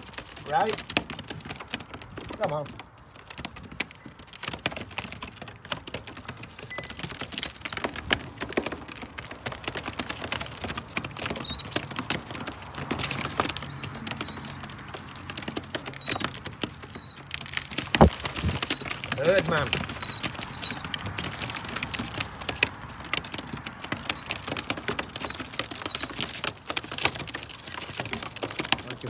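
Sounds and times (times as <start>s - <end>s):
pigeon beaks tapping on hand: 0.0s - 29.0s.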